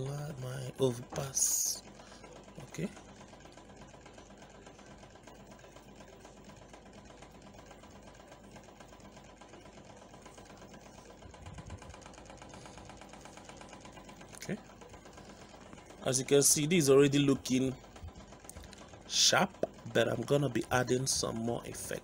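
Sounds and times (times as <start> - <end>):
faint fluttering mechanical hum: 0.0 - 22.0.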